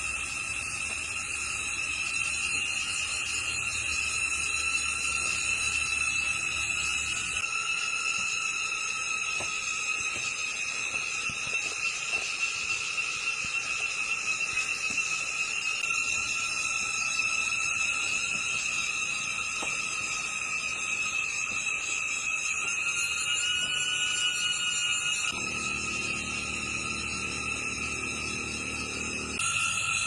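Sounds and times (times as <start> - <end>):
insect chorus trilling: 0.0 - 30.0.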